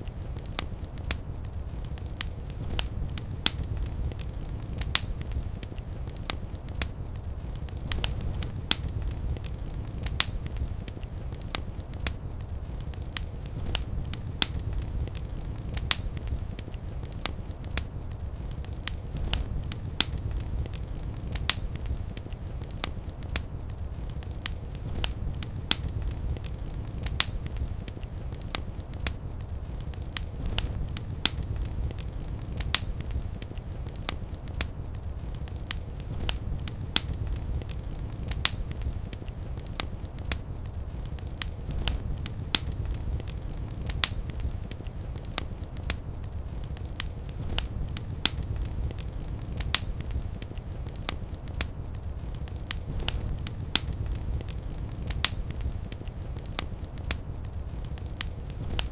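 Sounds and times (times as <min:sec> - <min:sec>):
fire crackles and pops: 0:00.0 - 0:58.9
low rumble of flames: 0:00.0 - 0:58.9.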